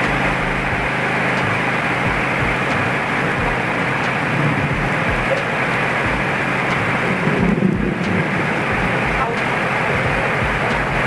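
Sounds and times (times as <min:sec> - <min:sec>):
rice milling machine rushing: 0:00.0 - 0:11.0.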